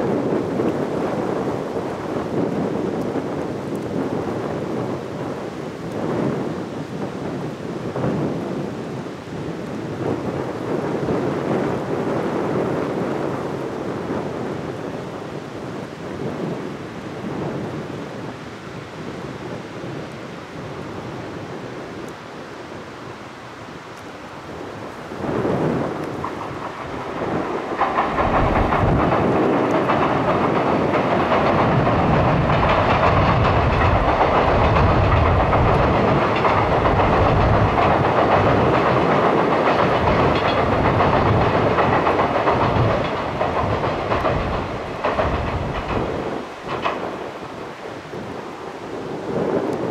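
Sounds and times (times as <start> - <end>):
clickety-clack over rail joints: 0.0 - 16.5, 24.9 - 49.9
train wheels rumbling on rail: 0.0 - 49.9.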